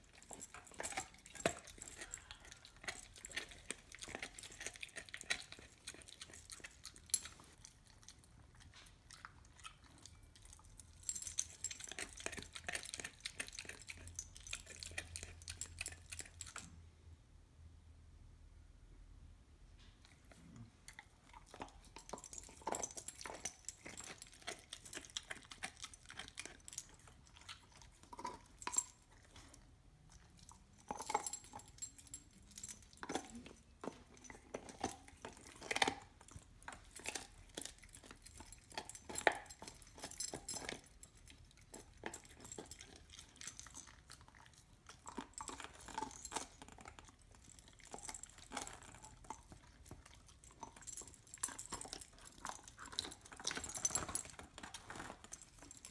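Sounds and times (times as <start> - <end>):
dog chewing on bone: 0.0 - 16.7, 20.8 - 55.9.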